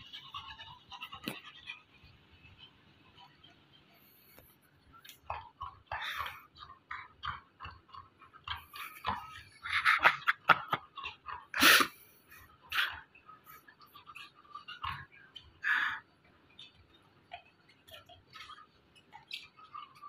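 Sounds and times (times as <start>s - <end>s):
dog chewing toy: 0.0s - 9.9s, 10.7s - 20.0s.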